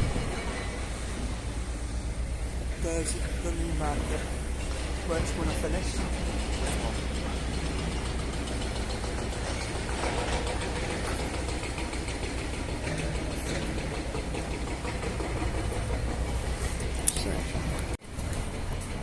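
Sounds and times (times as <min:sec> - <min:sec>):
low engine rumble: 0:00.0 - 0:19.0
outdoor noise: 0:00.0 - 0:19.0.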